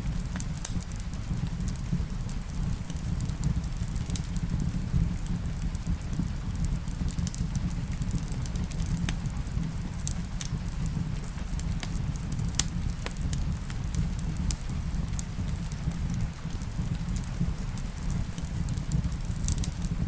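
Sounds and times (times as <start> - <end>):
rain: 0.0 - 20.0
wood fire crackling: 0.0 - 20.0.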